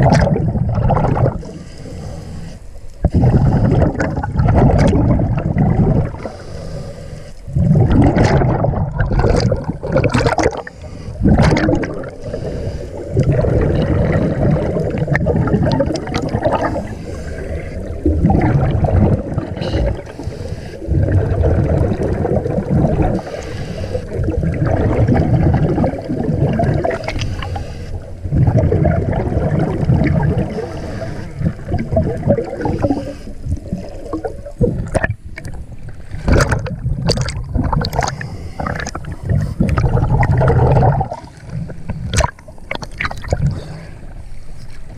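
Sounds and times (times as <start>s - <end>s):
bubbly crackles: 0.0s - 1.6s, 3.0s - 6.4s, 7.5s - 44.0s
underwater rushing and bubbling: 0.0s - 44.9s.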